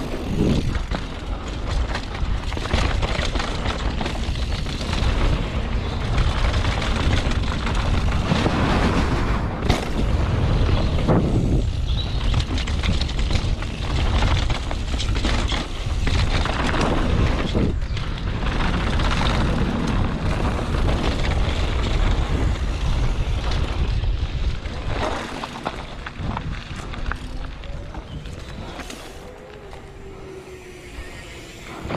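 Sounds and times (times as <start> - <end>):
tyres rolling on loose dirt: 0.0 - 30.3
bike rattling: 0.0 - 31.9
wind buffeting microphone: 0.0 - 31.9.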